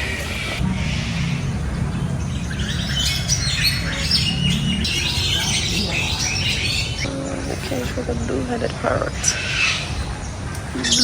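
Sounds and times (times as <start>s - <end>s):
low steady rumble: 0.0s - 10.8s
birds chirping and squawking: 0.0s - 11.0s.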